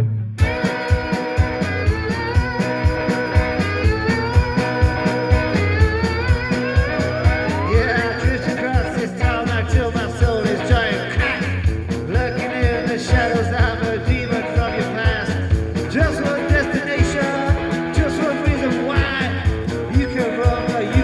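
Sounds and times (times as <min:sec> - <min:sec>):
electric guitar slide: 0:00.0 - 0:21.0
rock band playing: 0:00.4 - 0:21.0.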